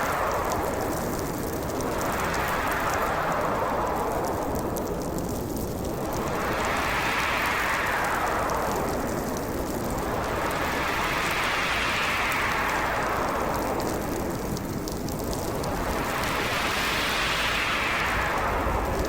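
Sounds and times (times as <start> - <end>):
storm wind gusting: 0.0 - 19.0.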